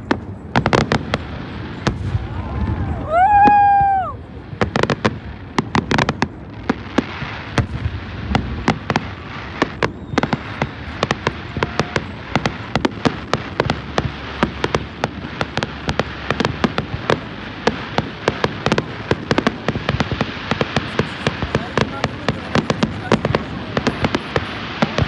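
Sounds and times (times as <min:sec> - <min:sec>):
crackle and low rumble: 0:00.0 - 0:25.0
fireworks sharp bangs: 0:00.0 - 0:25.0.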